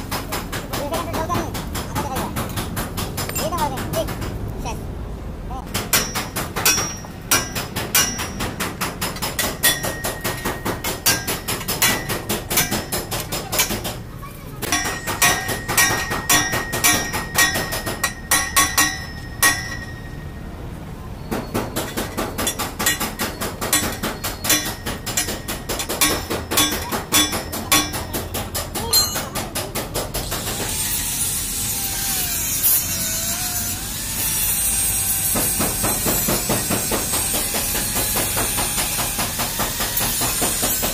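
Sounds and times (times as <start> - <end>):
metal-on-metal hammering: 0.0 - 4.4, 5.6 - 20.4, 21.3 - 31.8, 34.2 - 40.9.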